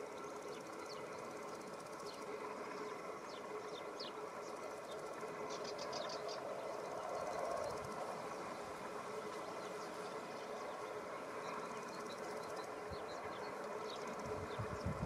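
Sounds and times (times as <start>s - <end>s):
bird singing: 0.0s - 8.6s, 9.2s - 15.0s
steady hum: 0.0s - 15.0s.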